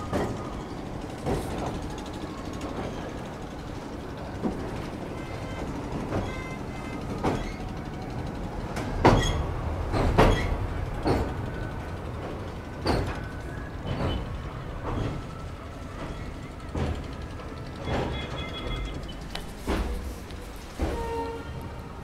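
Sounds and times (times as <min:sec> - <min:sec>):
train wheels rumbling on rails: 0:00.0 - 0:22.0
wheels clanking over rail joints: 0:00.0 - 0:22.0.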